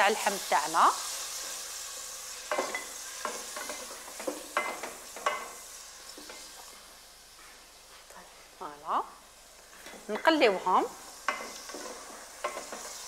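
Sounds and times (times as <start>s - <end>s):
meat sizzling in hot oil: 0.0s - 7.9s, 8.8s - 13.0s.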